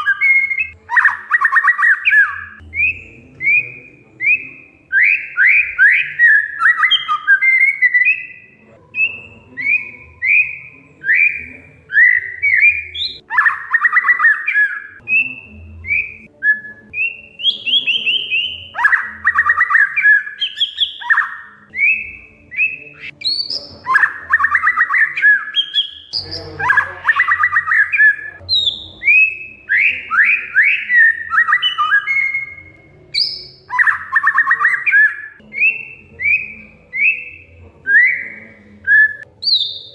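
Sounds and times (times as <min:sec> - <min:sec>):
bird whistling song: 0:00.0 - 0:39.9
harsh rattling chatter: 0:00.0 - 0:39.9.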